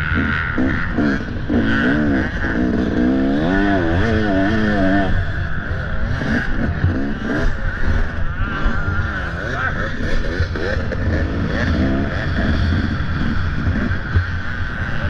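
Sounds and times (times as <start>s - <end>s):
dirt bike engine revving: 0.0s - 15.0s
wind drone: 0.0s - 15.0s.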